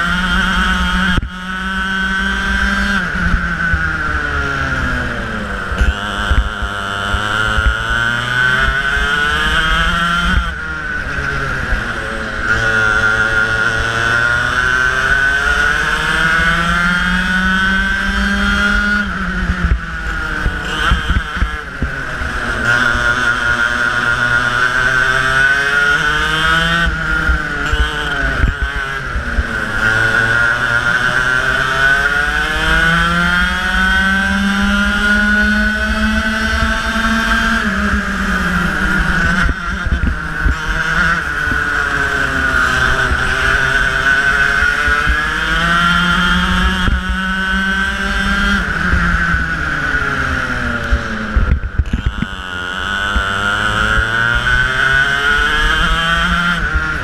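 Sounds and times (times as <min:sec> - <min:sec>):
racing kart engine: 0:00.0 - 0:57.0.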